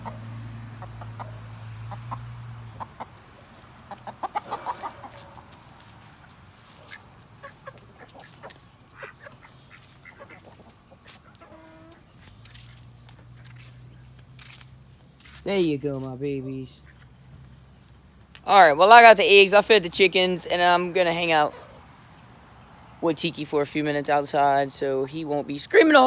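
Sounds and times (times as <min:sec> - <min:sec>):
chickens clucking: 0:00.0 - 0:14.3, 0:16.4 - 0:26.0.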